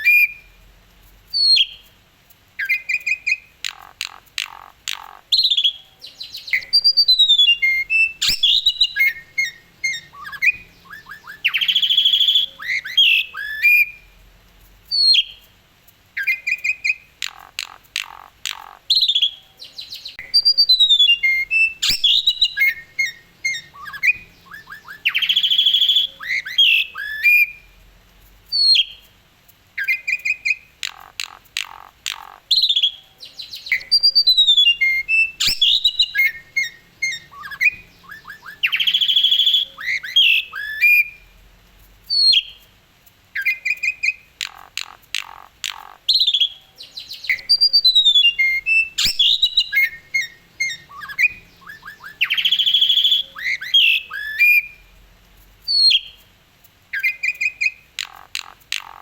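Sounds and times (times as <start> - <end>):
starling singing: 2.6 - 14.1, 16.2 - 27.7, 29.8 - 41.3, 43.4 - 54.9, 56.9 - 59.0.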